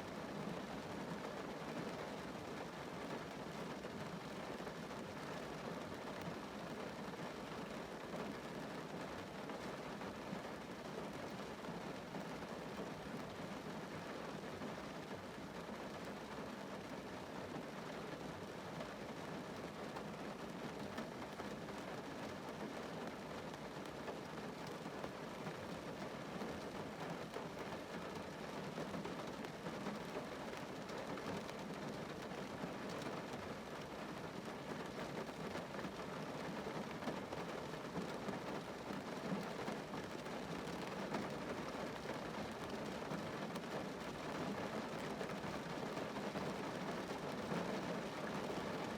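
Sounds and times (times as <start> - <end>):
rain on car roof: 0.0 - 48.9.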